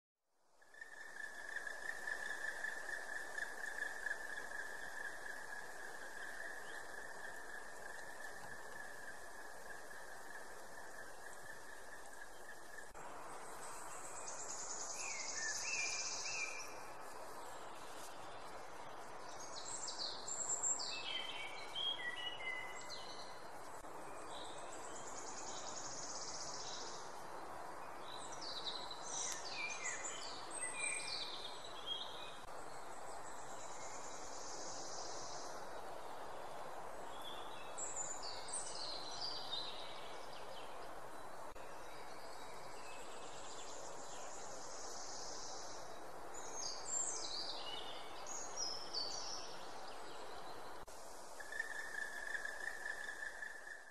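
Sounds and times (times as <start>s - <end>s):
small songbirds chirping: 0.4s - 53.9s
steady background hiss: 0.4s - 53.9s.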